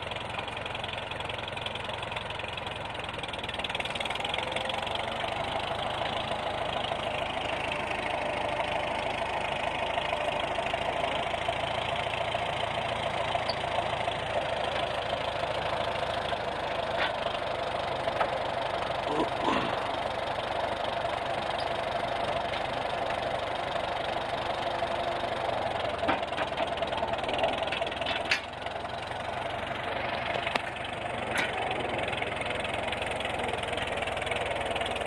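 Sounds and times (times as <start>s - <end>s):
engine running at low speed: 0.0s - 35.0s.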